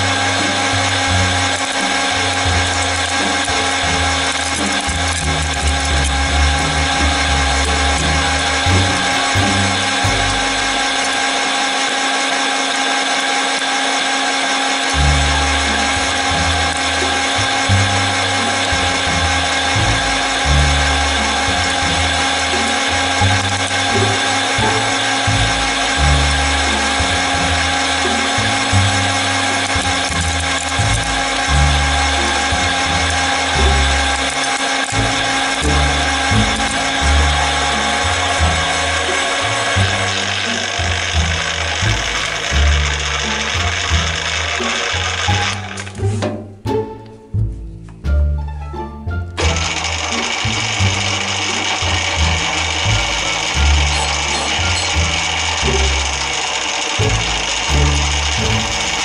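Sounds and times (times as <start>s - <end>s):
background music with bass line: 0.0s - 11.2s, 15.0s - 59.0s
metal lathe whining: 0.0s - 46.1s, 49.4s - 59.0s.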